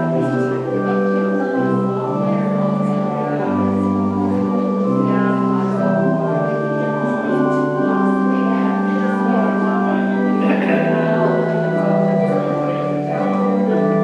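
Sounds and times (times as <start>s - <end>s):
organ playing slow chords: 0.0s - 14.0s.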